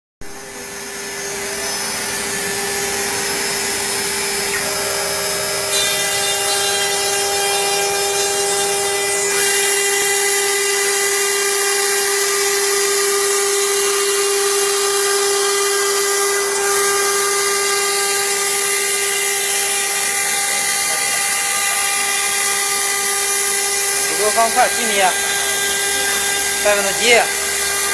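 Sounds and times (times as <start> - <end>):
router spindle whine: 0.2 - 27.9.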